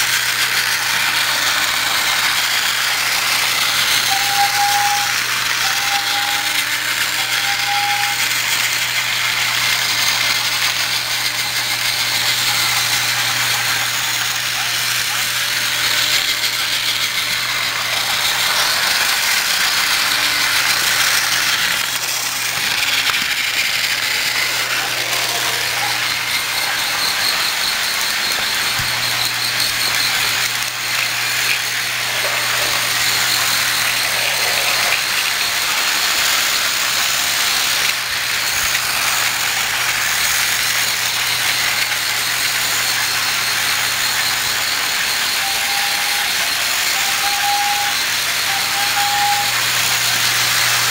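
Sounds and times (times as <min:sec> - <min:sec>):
toy train motors whirring: 0:00.0 - 0:50.9
wheels rattling over track: 0:00.0 - 0:50.9.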